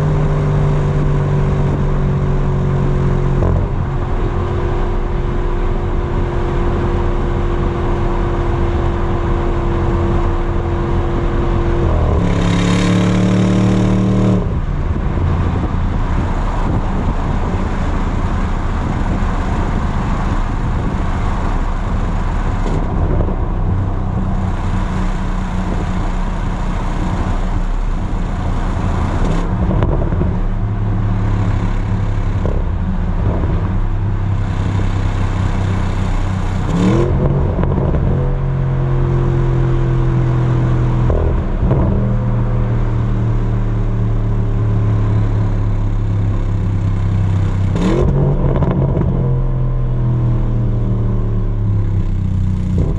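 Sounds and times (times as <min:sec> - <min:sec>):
car exhaust at highway speed: 0:00.0 - 0:52.9
road and wind noise: 0:00.0 - 0:52.9.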